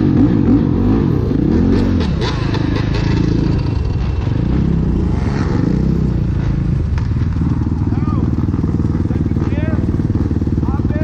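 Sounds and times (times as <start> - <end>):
motorcycle engine revving: 0.0 - 11.0
steady low rumble: 0.0 - 11.0.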